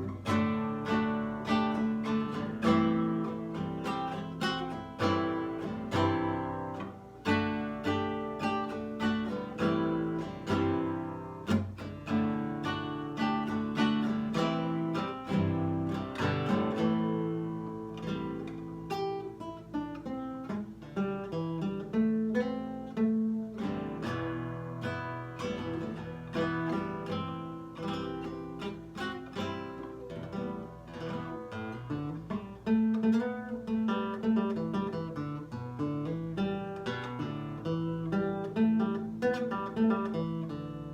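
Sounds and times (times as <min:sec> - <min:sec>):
nylon-string guitar playing: 0:00.0 - 0:40.9.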